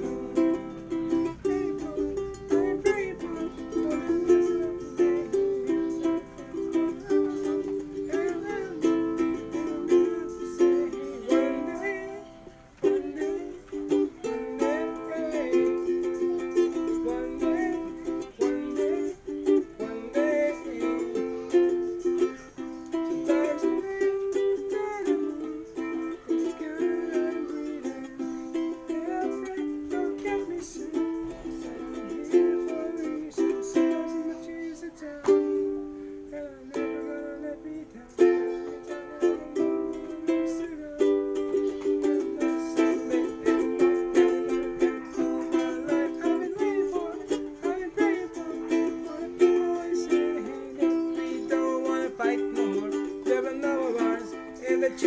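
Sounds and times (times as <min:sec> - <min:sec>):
man singing: 0:00.0 - 0:55.0
ukulele strumming chords: 0:00.0 - 0:55.0.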